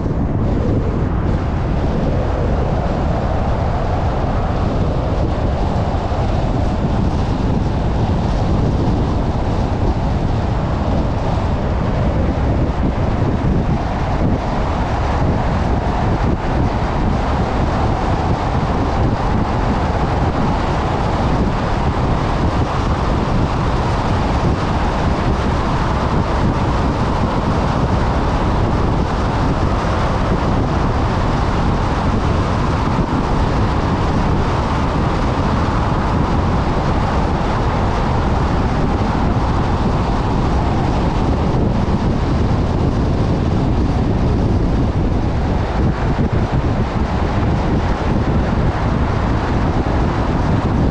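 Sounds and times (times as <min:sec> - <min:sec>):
car road and wind noise: 0:00.0 - 0:50.9.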